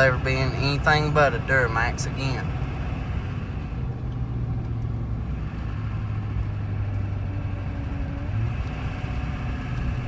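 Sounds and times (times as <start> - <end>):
diesel engine droning under load: 0.0 - 10.0
road noise: 0.0 - 10.0.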